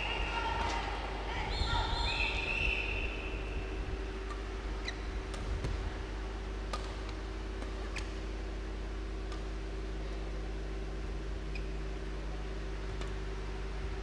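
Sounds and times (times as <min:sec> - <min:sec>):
steady hum of hall: 0:00.0 - 0:14.0.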